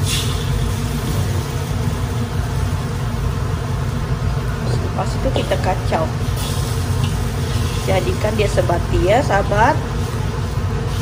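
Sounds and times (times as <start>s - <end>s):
stove rumble: 0.0s - 11.0s.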